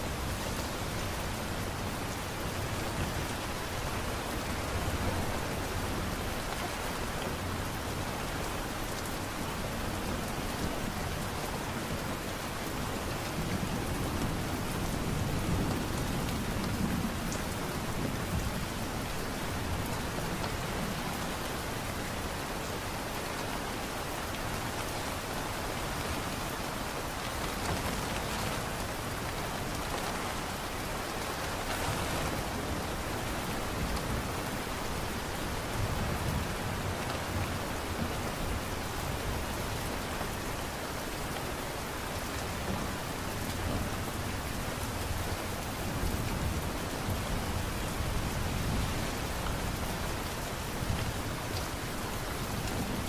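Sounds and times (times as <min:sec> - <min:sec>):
light rain hiss: 0:00.0 - 0:53.0.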